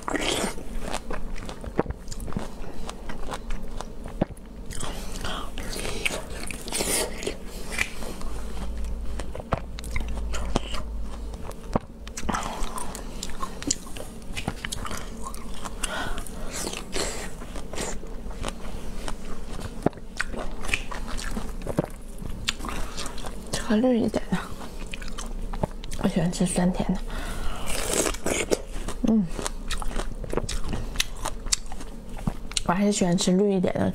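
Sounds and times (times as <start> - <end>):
biting and chewing fruit: 0.0 - 26.5, 27.5 - 32.8.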